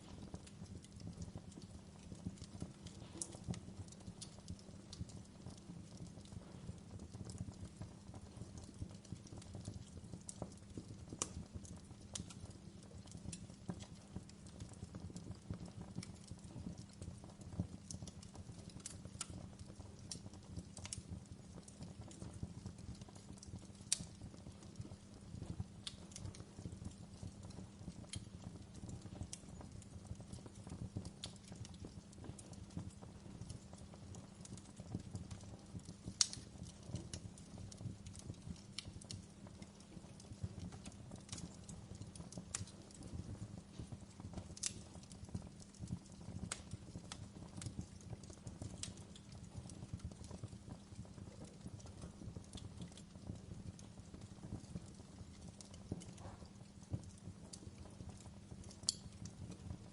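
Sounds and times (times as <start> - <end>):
fire flames rumbling: 0.0 - 59.9
wood fire crackling and popping: 0.0 - 59.9.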